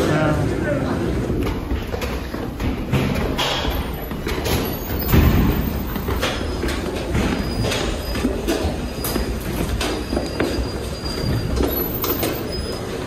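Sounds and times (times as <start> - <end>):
footsteps climbing stairs: 0.0 - 13.0.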